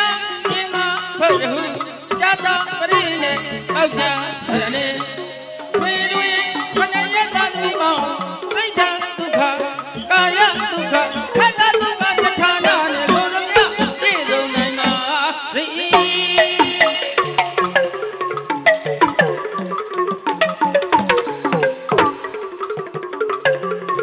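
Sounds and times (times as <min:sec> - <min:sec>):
tuned percussion orchestra playing: 0:00.0 - 0:15.1, 0:15.8 - 0:24.0.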